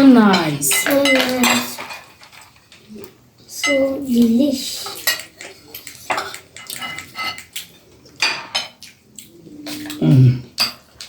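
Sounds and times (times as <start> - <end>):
spoons clinking against plates: 0.0 - 2.8, 3.6 - 11.0.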